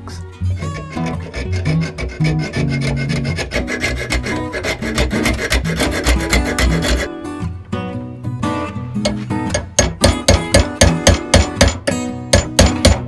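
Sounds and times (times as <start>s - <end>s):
file rasping on metal: 0.4s - 7.1s, 9.1s - 13.0s.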